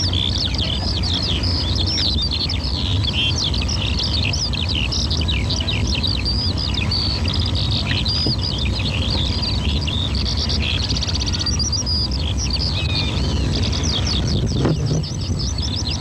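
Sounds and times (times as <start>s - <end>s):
birds chirping: 0.0s - 16.0s
low rumble: 0.0s - 16.0s.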